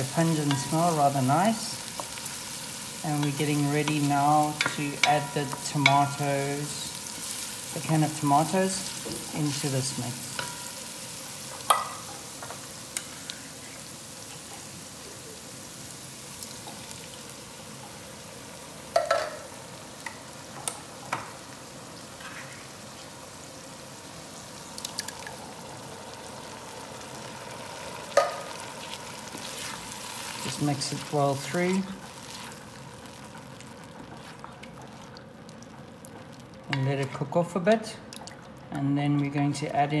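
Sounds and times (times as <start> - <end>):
onions sizzling in oil: 0.0 - 40.0.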